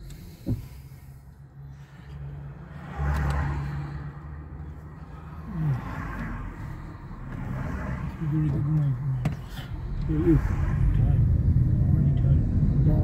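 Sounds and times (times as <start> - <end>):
car engine: 0.0 - 13.0
road noise: 0.0 - 13.0.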